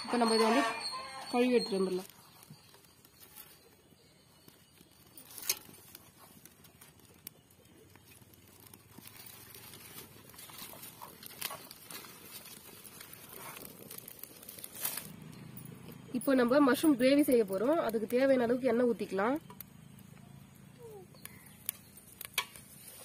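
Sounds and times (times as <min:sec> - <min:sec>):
kindling crackling in stove: 0:00.0 - 0:23.0.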